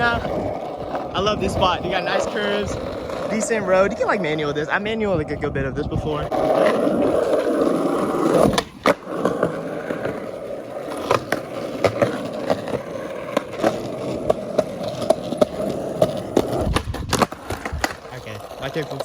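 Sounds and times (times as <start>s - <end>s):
skateboard wheels rolling on pavement: 0.0s - 19.0s.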